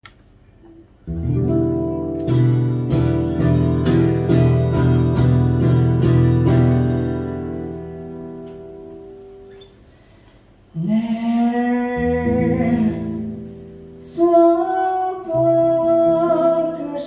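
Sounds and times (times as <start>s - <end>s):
acoustic guitar strumming: 1.0s - 10.2s, 11.0s - 17.0s.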